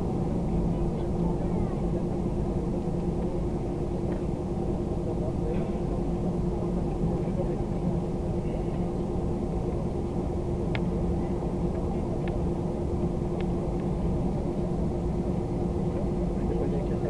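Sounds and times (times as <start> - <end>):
jet engine drone: 0.0 - 17.0
steady hum: 0.0 - 17.0.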